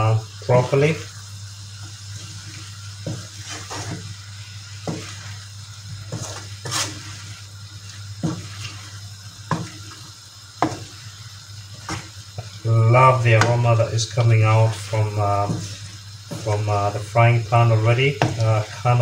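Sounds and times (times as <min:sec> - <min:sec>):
food sizzling: 0:00.0 - 0:19.0
steady low hum: 0:00.0 - 0:19.0
spatula scraping pan: 0:02.0 - 0:19.0.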